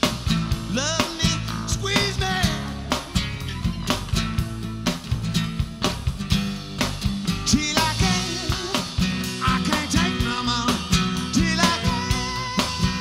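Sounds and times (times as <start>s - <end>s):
instrumental rock band: 0.0s - 13.0s.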